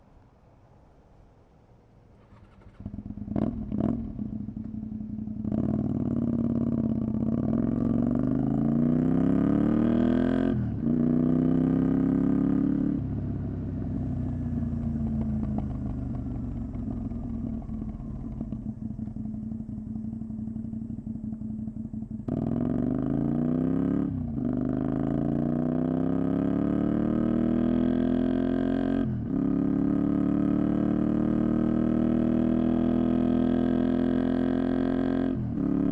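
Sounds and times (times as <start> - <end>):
motorcycle engine accelerating: 2.2 - 35.9.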